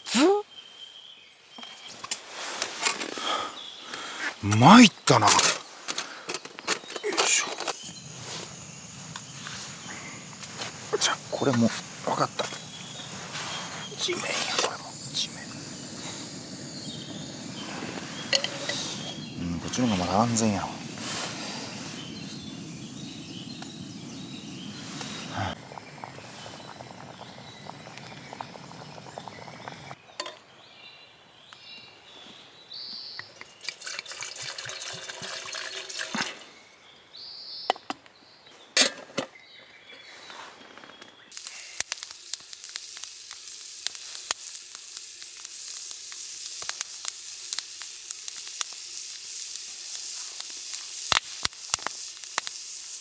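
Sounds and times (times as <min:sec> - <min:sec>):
food sizzling over campfire: 0:01.8 - 0:30.7, 0:33.4 - 0:36.8, 0:40.7 - 0:53.0.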